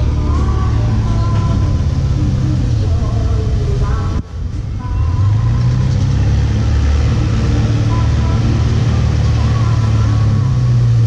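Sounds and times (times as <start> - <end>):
engine running with low hum: 0.0 - 11.0.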